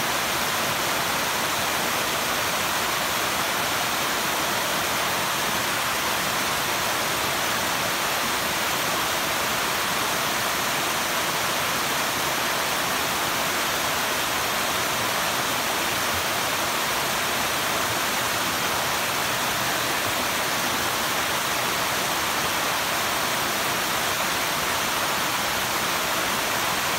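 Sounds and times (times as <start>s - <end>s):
stream water rushing: 0.0s - 26.9s.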